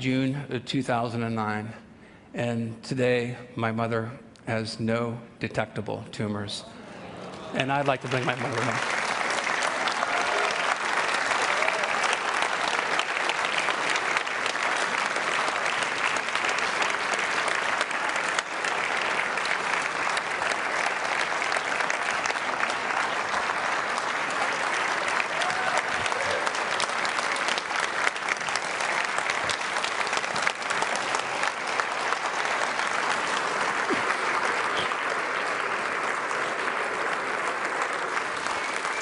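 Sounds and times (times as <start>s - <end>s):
audience applauding: 7.4s - 39.0s.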